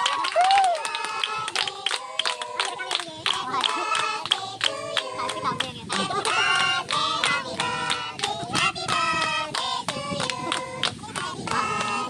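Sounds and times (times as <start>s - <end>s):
people clapping: 0.0s - 12.0s
group of people singing: 0.8s - 12.0s.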